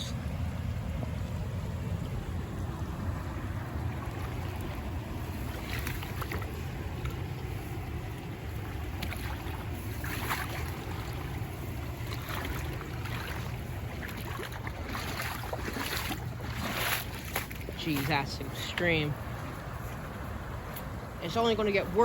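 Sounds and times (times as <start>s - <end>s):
rushing creek water: 0.0s - 22.0s
wind rumbling on microphone: 0.0s - 22.0s.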